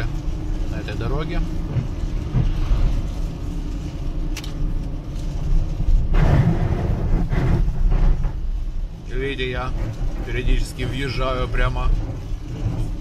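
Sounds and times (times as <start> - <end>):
car tyres and engine rumble: 0.0 - 13.0.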